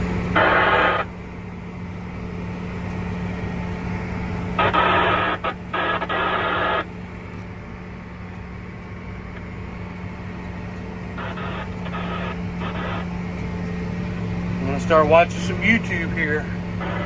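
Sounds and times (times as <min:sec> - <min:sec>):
tractor engine humming: 0:00.0 - 0:17.0.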